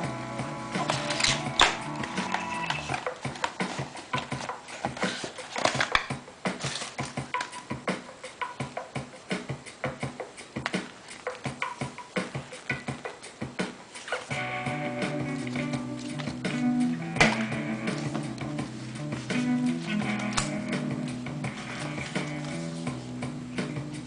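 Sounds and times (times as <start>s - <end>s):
percussive background music: 0.0s - 24.0s.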